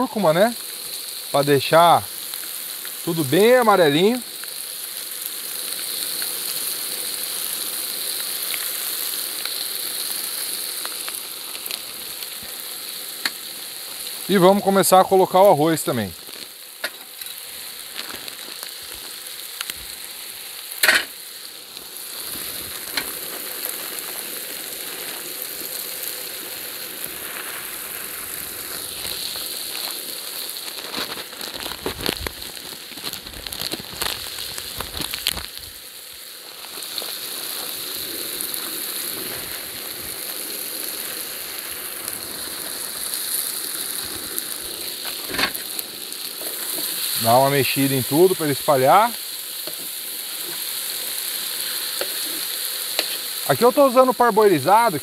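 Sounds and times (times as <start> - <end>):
food sizzling in pan: 0.0 - 55.0.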